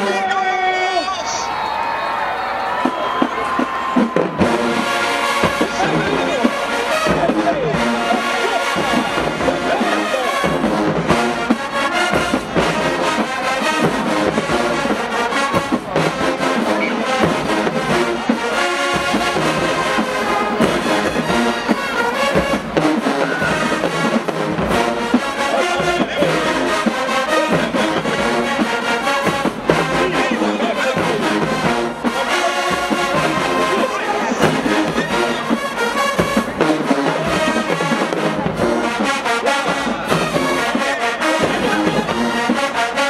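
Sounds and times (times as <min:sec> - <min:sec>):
brass section playing: 0:00.0 - 0:43.0
steady drum beat: 0:02.6 - 0:43.0.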